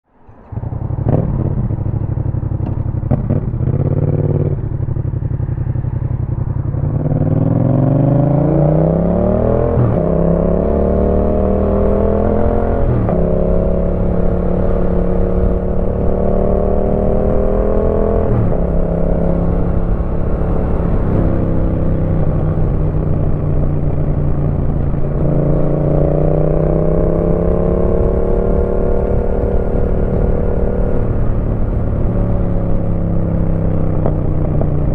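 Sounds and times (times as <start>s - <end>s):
motorcycle engine accelerating: 0.3s - 34.9s.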